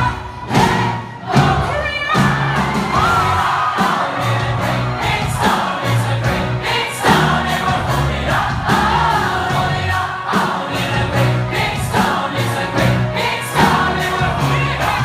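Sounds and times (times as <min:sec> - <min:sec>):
concert crowd singing along: 0:00.0 - 0:15.0
live band playing: 0:00.0 - 0:15.0.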